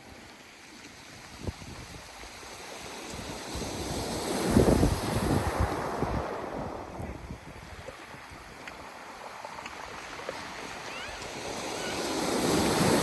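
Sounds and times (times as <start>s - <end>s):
surf crashing on pebble beach: 1.0s - 13.0s
wind buffeting microphone: 1.1s - 13.0s.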